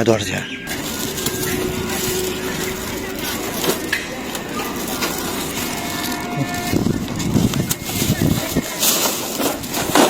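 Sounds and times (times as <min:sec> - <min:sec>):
plastic bottles crackling: 0:00.6 - 0:10.0.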